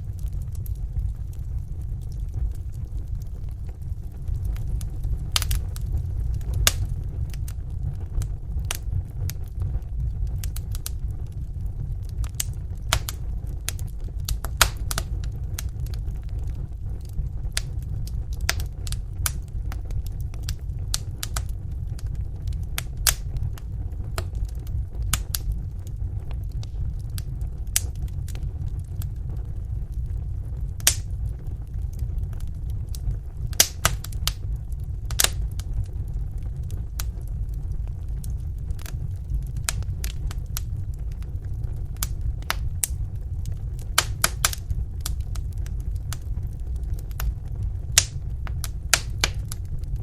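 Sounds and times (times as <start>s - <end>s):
fire crackling and popping: 0.0s - 50.0s
low rumble of flames: 0.0s - 50.0s.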